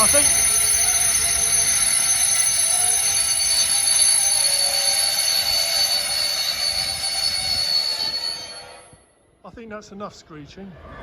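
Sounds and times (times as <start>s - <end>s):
train wheels screeching: 0.0s - 9.1s.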